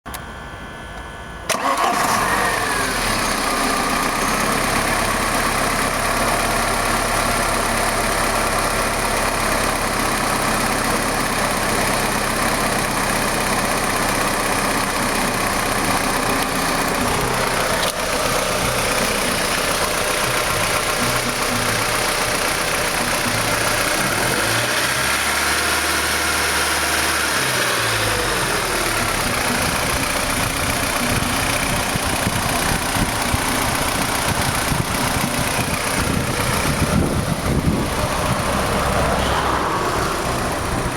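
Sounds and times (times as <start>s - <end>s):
car engine idling: 0.3s - 40.9s.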